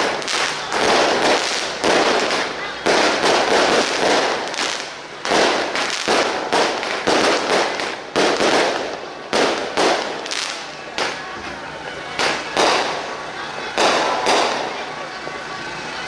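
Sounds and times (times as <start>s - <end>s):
fireworks banging and crackling: 0.0s - 16.0s.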